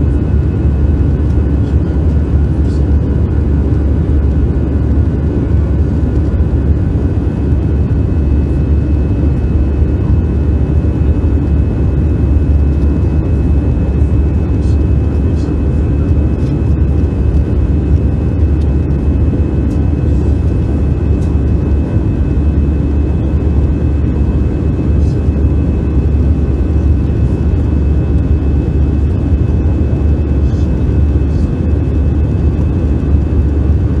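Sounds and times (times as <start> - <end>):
jet engine and airflow rumble: 0.0 - 34.0
thin steady whine: 0.0 - 34.0.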